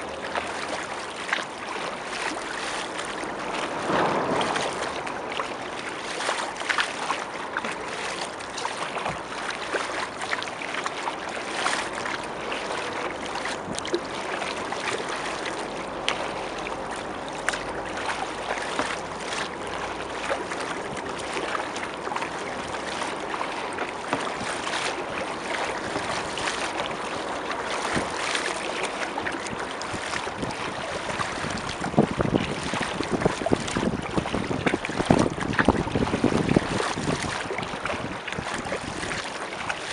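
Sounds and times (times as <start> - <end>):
water splashing around kayak: 0.0 - 39.9
wind on microphone: 0.7 - 9.4, 11.6 - 39.9.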